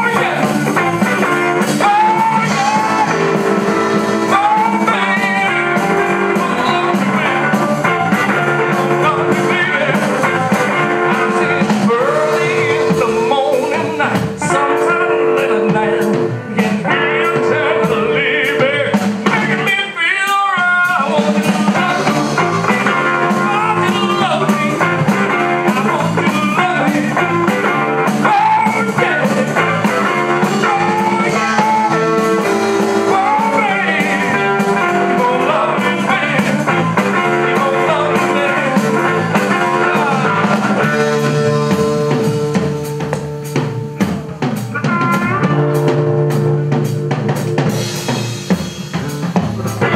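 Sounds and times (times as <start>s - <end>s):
person singing: 0.0s - 47.0s, 49.6s - 49.9s
bass line: 0.0s - 49.9s
drum kit beat: 0.0s - 49.9s
live blues band: 0.0s - 49.9s.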